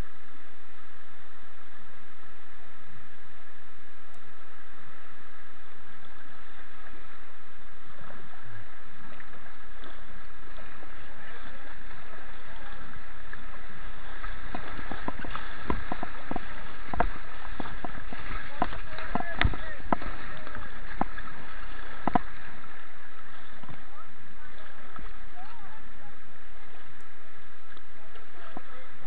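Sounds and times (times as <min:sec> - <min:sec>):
rushing white water: 0:00.0 - 0:29.0
paddle strokes splashing: 0:04.2 - 0:29.0.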